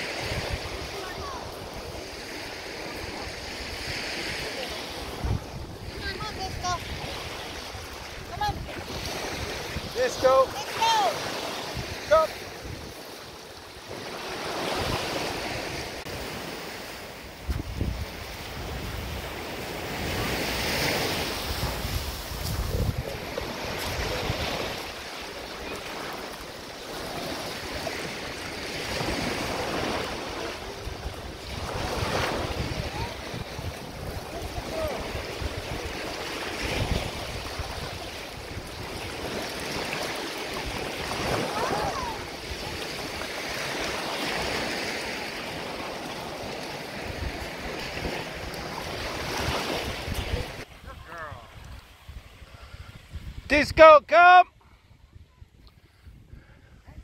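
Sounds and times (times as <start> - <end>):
wind buffeting microphone: 0.0 - 53.5, 54.6 - 57.0
small waves breaking on shore: 0.0 - 57.0.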